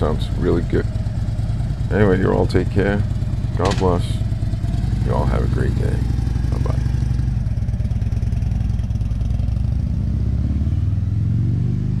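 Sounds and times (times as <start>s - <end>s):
motorcycle engine idling: 0.0s - 10.3s.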